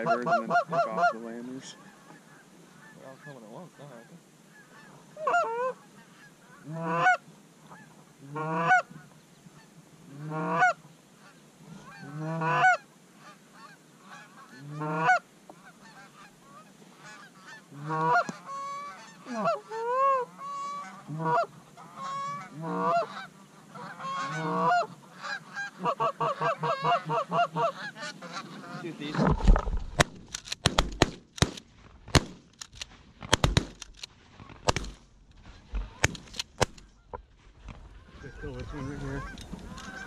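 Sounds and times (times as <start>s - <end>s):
geese honking and clucking: 0.0s - 29.7s, 35.4s - 40.0s.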